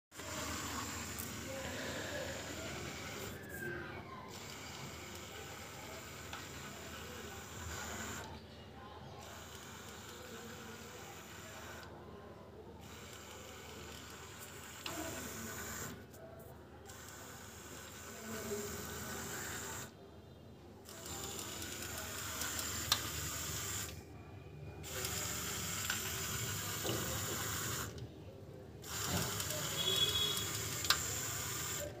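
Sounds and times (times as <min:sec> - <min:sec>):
small gear motors whining: 0:00.1 - 0:08.4, 0:09.2 - 0:11.9, 0:12.8 - 0:16.0, 0:16.9 - 0:20.0, 0:20.8 - 0:24.0, 0:24.8 - 0:28.0, 0:28.8 - 0:32.0.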